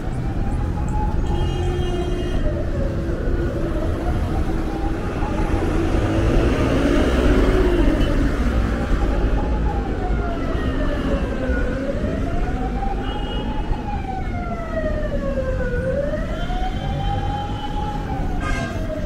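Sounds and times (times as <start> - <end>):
emergency siren wailing: 0.0 - 19.0
street traffic rumble: 0.0 - 19.0.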